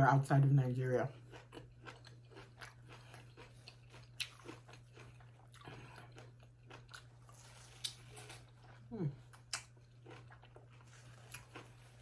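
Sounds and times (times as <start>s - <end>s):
wet chewing and mouth clicks: 1.1s - 12.0s.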